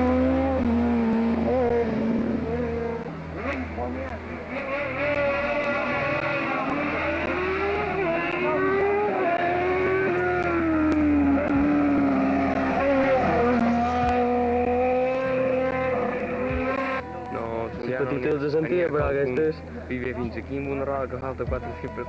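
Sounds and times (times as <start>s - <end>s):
rally car engine revving: 0.0s - 21.6s.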